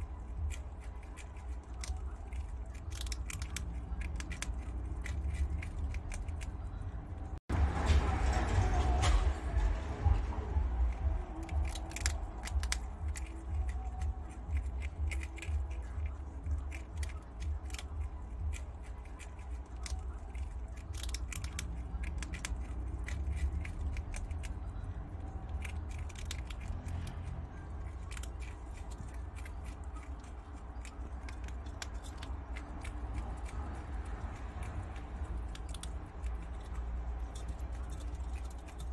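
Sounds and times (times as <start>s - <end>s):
low steady hum: 0.0s - 38.9s
animal teeth chewing clicks: 0.2s - 6.6s, 10.9s - 24.6s, 25.2s - 38.9s.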